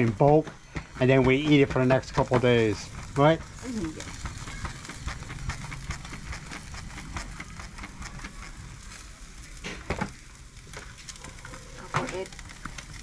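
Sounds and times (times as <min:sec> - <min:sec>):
coals crackling and ticking: 0:00.0 - 0:13.0
meat sizzling over charcoal: 0:00.0 - 0:13.0.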